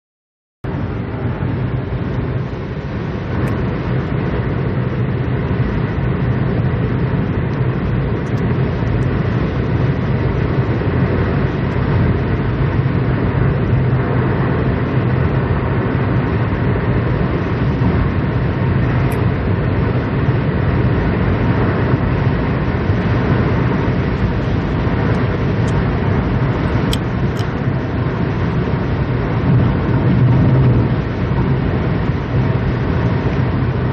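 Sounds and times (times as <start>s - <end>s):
strong wind buffeting microphone: 0.7s - 33.9s.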